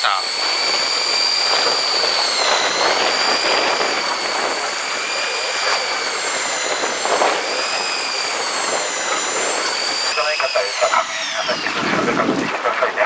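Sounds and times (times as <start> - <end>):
motor whining: 0.0 - 13.0
wind: 0.0 - 13.0.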